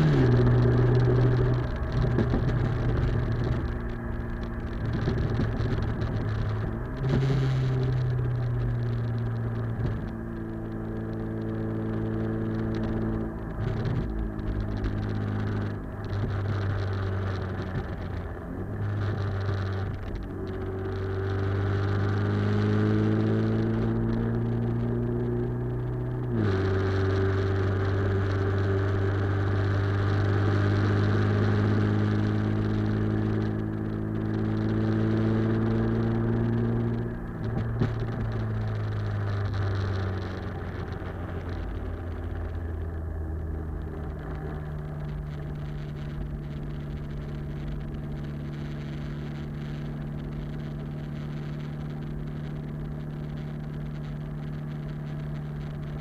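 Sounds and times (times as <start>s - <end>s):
car engine exhaust drone: 0.0s - 56.0s.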